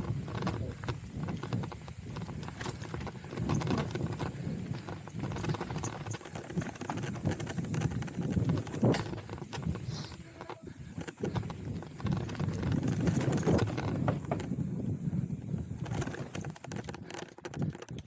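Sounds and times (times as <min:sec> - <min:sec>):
bike rattling over rough ground: 0:00.0 - 0:18.0
tyres rumbling over dirt and rocks: 0:00.0 - 0:18.0.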